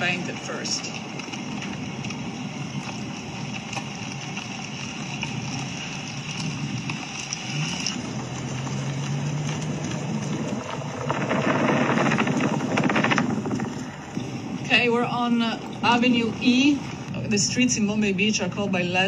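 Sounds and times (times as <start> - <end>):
car engine and road noise: 0.0 - 19.0
low steady hum: 0.0 - 19.0.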